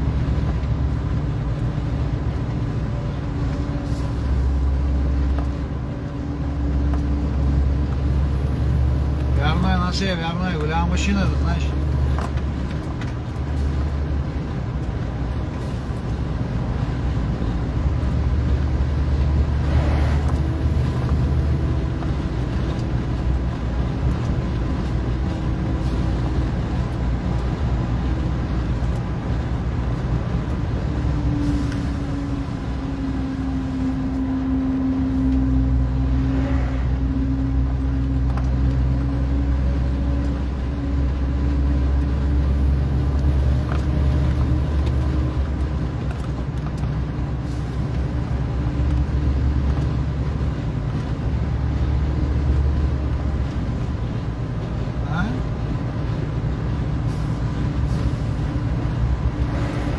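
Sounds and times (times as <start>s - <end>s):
road and tyre noise: 0.0s - 59.9s.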